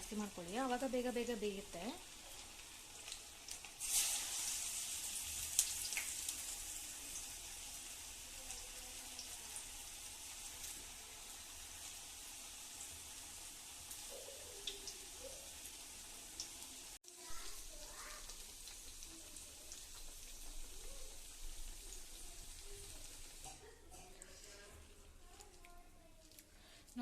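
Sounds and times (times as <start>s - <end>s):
food deep-frying in oil: 0.0s - 27.0s.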